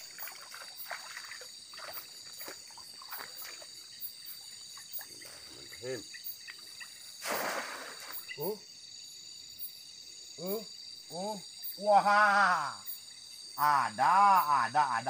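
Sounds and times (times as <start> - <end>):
crickets and insects buzzing: 0.0 - 15.0
frogs croaking: 0.0 - 15.0.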